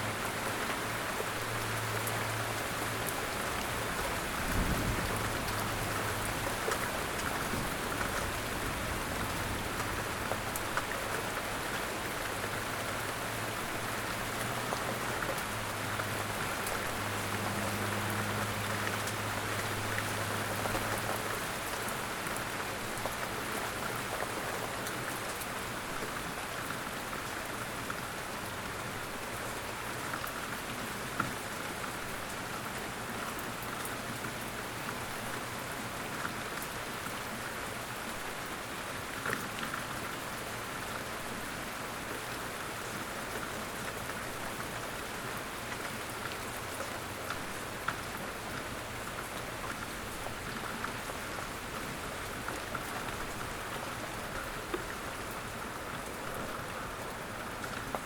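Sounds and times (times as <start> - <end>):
rain falling: 0.0 - 58.0
raindrops ticking on surfaces: 0.0 - 58.0.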